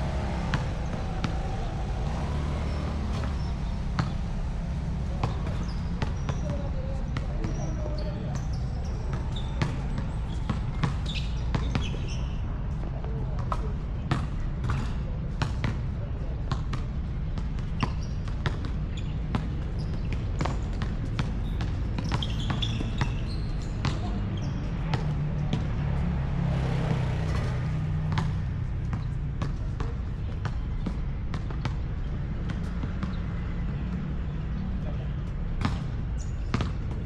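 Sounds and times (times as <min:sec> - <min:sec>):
basketball bouncing on court: 0:00.0 - 0:37.0.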